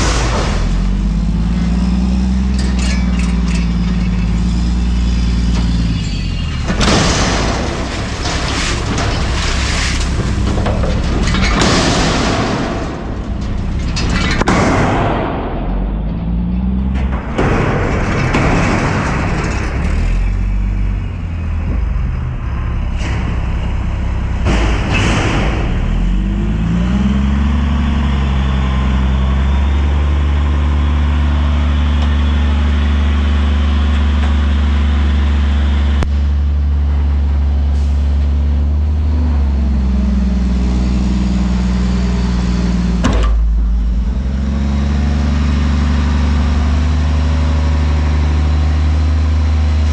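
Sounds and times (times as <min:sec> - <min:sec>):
diesel truck engine revving: 0:00.0 - 0:49.9.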